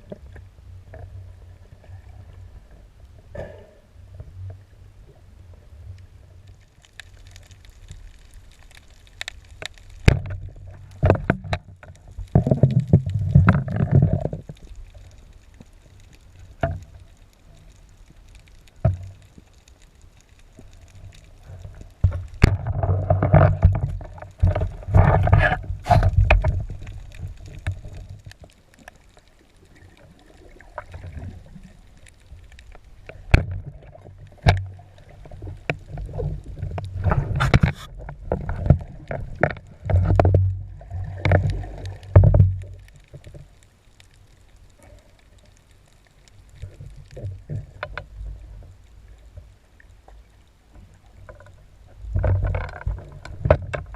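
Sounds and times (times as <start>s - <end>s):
underwater gurgling and bubbling: 0.0s - 53.9s.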